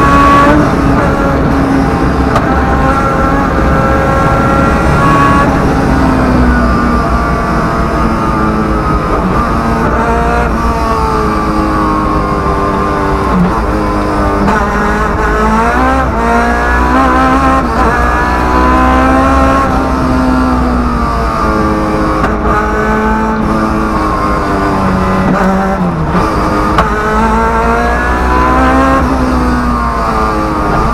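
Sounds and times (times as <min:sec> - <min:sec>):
rally car engine revving: 0:00.0 - 0:30.9.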